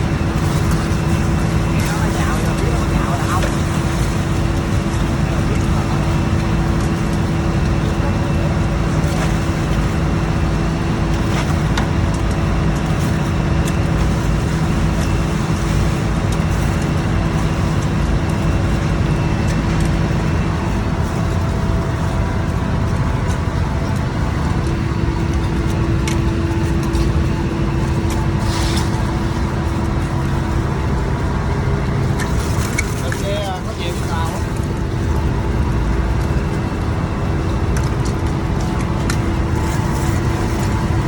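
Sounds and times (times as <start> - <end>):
boat engine droning: 0.0 - 41.0.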